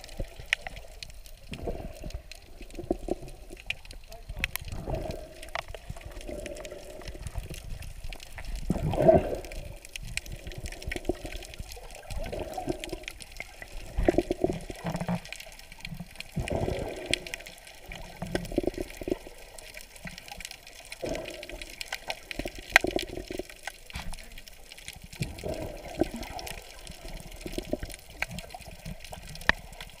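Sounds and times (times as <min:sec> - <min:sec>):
underwater sloshing and bubbling: 0:00.0 - 0:30.0.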